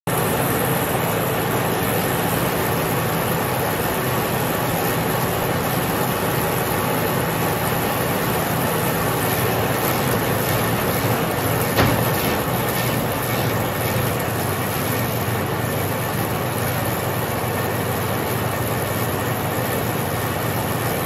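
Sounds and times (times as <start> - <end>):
sawmill engine running: 0.1 - 21.0.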